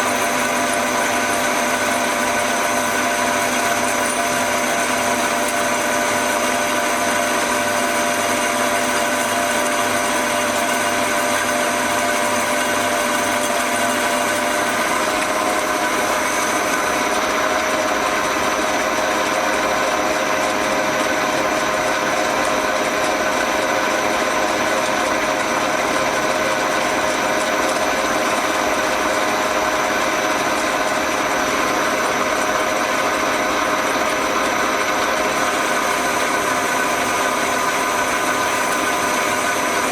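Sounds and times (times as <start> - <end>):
metal lathe gear whine: 0.0 - 39.9.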